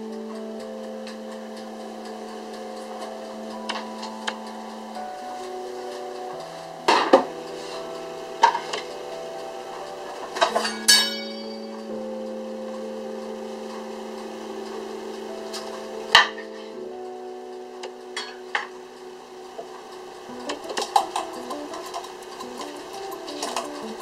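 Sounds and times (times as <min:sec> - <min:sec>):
gentle background music: 0:00.0 - 0:24.0.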